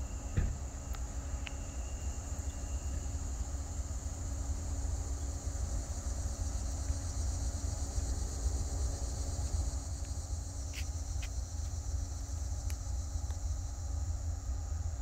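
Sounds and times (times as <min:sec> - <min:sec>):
high insect buzz: 0:00.0 - 0:14.6.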